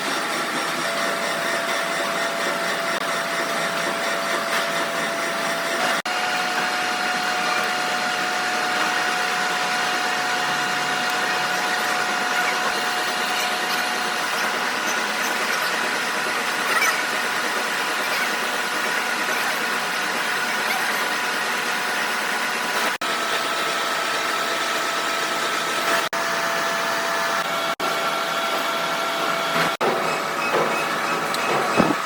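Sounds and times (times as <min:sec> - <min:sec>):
machine whine: 0:00.0 - 0:32.0.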